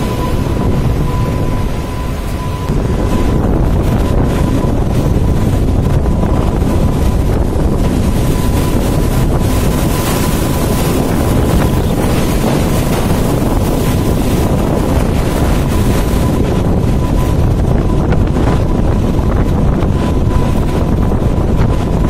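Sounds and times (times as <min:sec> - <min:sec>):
thin steady tone: 0:00.0 - 0:21.7
loud low rumble: 0:00.0 - 0:22.0
wind buffeting microphone: 0:00.0 - 0:22.0.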